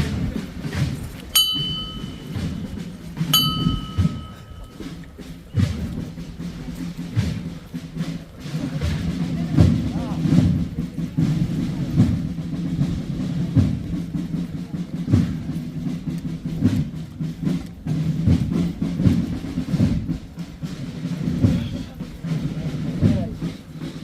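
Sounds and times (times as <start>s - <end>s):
drums beating slow march: 0.0s - 24.0s.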